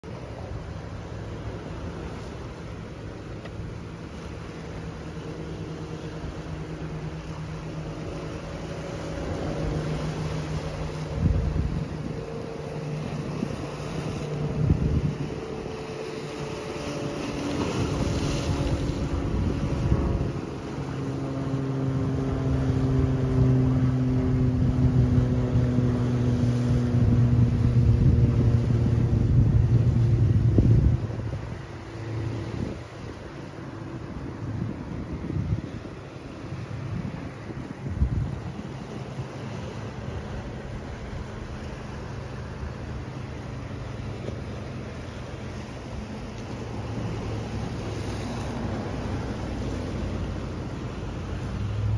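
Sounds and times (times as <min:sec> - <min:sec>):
waves washing against boulders: 0:00.0 - 0:51.9
motor engine droning: 0:00.1 - 0:51.9.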